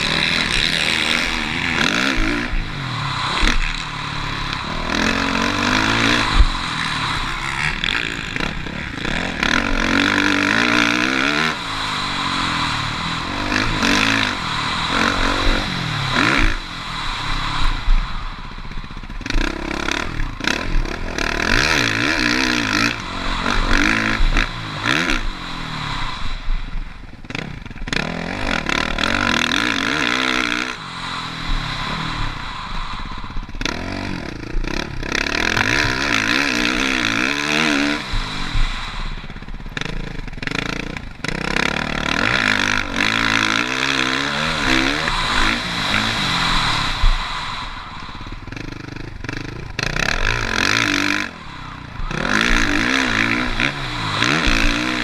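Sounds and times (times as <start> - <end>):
motocross bike engine revving: 0.0 - 55.0
rushing noise at speed: 0.0 - 55.0.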